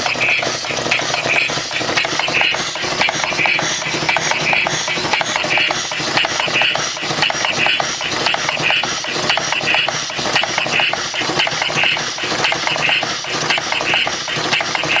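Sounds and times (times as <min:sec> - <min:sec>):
engine parts clicking: 0:00.0 - 0:15.0.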